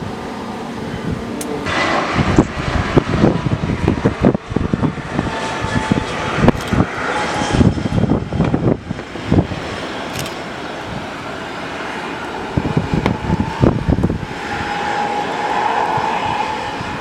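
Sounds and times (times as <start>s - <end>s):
jet airliner engines: 0.0s - 17.0s
wind buffeting microphone: 0.0s - 17.0s.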